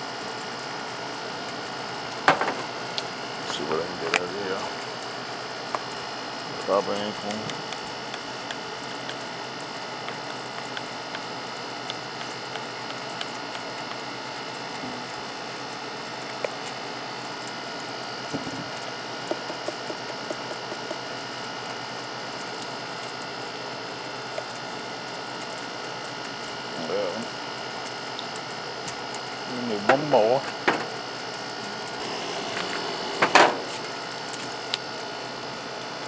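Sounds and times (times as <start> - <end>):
electrical hum: 0.0 - 36.0.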